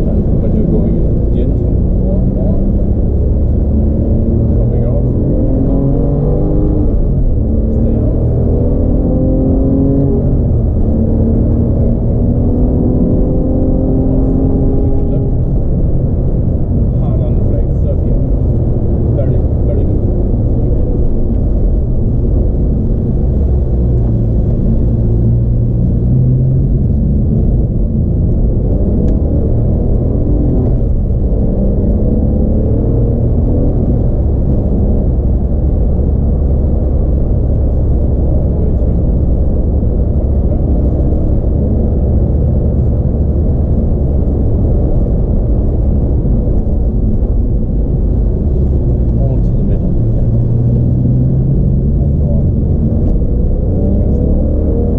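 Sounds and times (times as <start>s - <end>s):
car engine running: 0.0s - 54.9s
road rumble: 0.0s - 54.9s.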